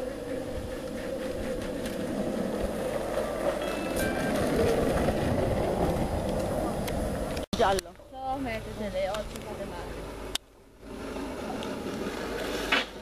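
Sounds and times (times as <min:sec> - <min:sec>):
wheels rolling fast on asphalt: 0:00.0 - 0:13.0.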